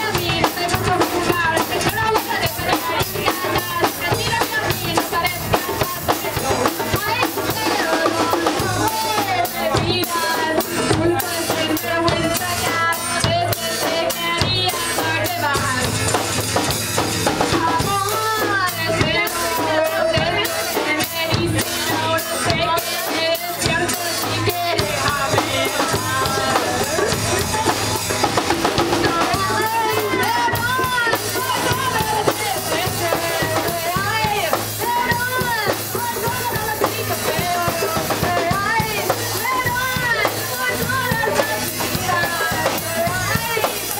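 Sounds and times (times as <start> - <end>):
drum kit beat: 0.0 - 43.9
live band playing: 0.0 - 43.9
person singing: 0.0 - 43.9.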